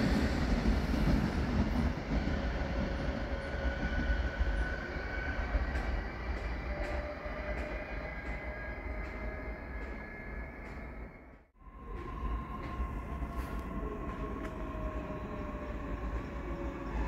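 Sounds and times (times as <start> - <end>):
train rumbling on tracks: 0.0 - 17.0.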